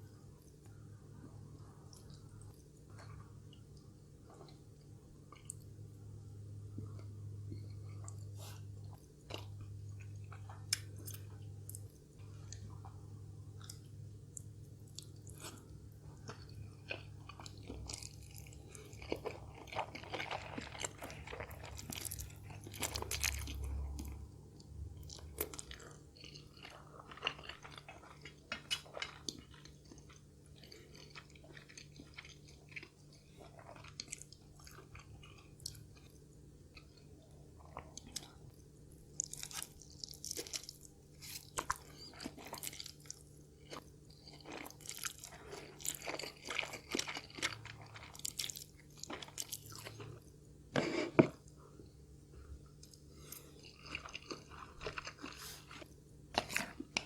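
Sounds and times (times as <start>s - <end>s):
person chewing crunchy food: 6.7s - 57.0s.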